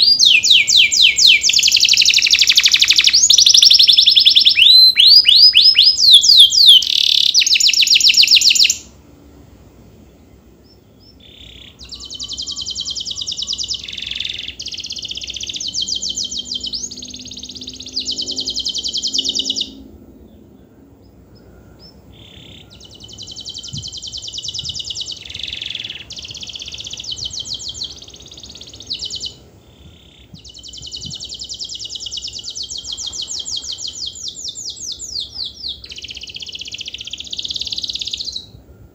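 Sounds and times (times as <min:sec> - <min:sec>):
canary singing trilled song: 0:00.0 - 0:08.9, 0:10.6 - 0:19.9, 0:21.8 - 0:38.6.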